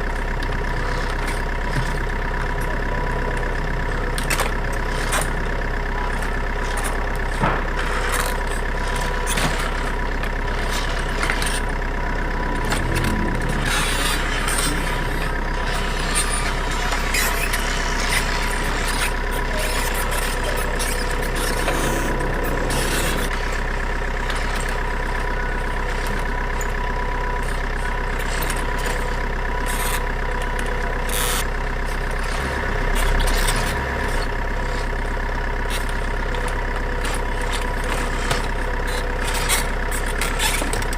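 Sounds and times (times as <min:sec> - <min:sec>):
rc truck motor whine: 0:00.0 - 0:40.9.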